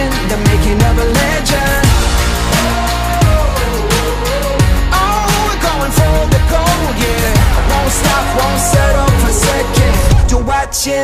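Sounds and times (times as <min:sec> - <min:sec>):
pop music with drum beat: 0:00.0 - 0:11.0.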